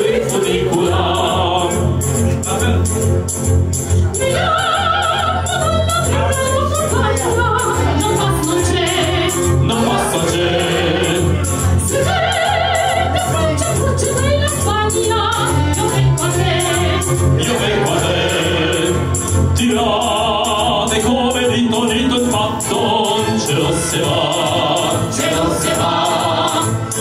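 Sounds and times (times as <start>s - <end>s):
person singing over music: 0.0s - 3.0s, 4.0s - 27.0s.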